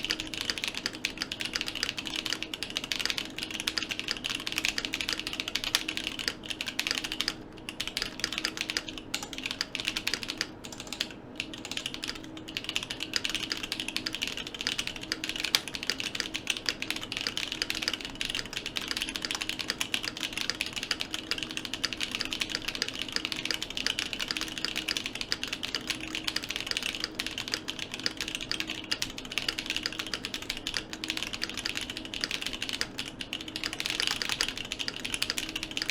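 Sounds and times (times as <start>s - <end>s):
mechanical keyboard typing: 0.0s - 35.9s.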